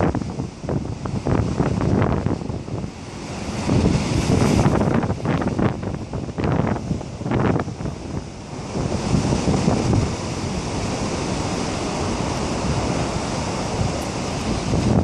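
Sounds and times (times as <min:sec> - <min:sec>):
storm surf roaring: 0:00.0 - 0:15.0
wave surging: 0:00.0 - 0:15.0
wind buffeting microphone: 0:00.0 - 0:15.0.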